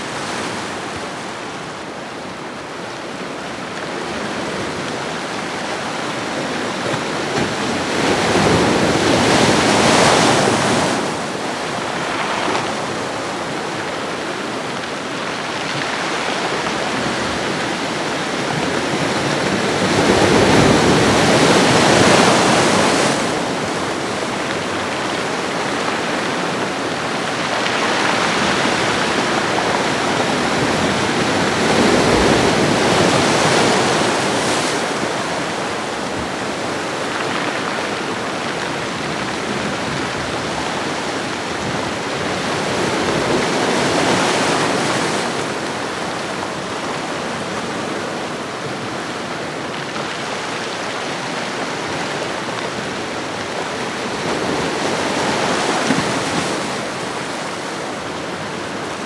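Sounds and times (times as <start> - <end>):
ocean waves washing on shore: 0.0 - 59.0.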